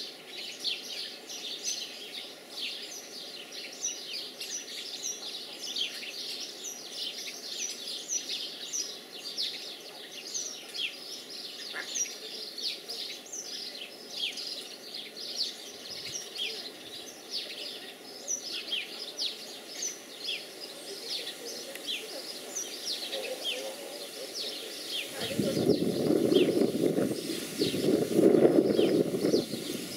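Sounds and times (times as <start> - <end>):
low background noise: 0.0 - 29.9.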